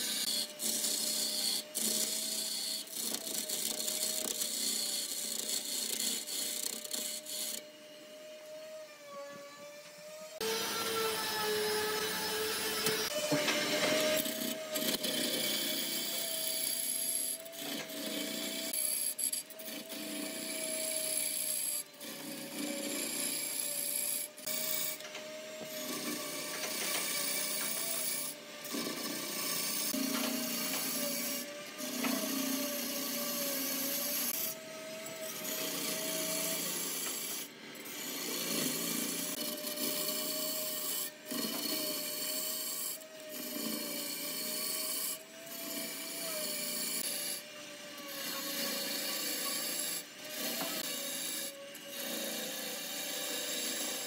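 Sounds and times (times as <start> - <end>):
lathe tool scraping wood: 0.0 - 7.7, 10.4 - 54.0.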